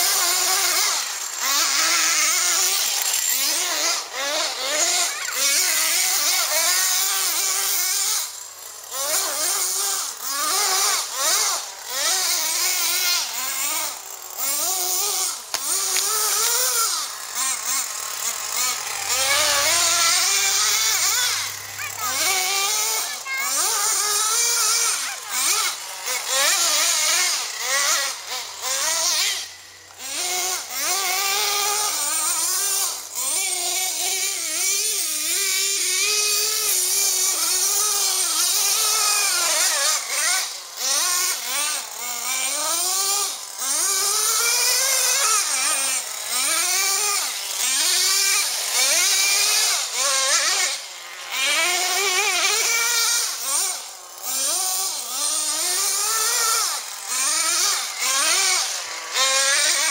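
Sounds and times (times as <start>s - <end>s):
rc truck engine revving: 0.0s - 59.9s.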